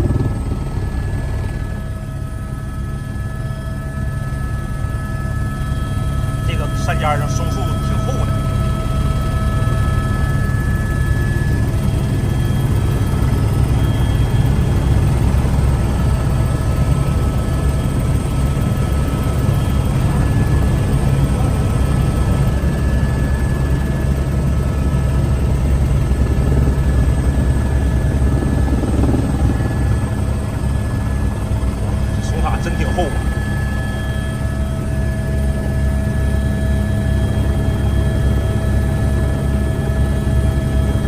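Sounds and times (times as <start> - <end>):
faint steady whine tones: 0.0 - 41.0
helicopter rotor and engine drone: 0.0 - 41.0.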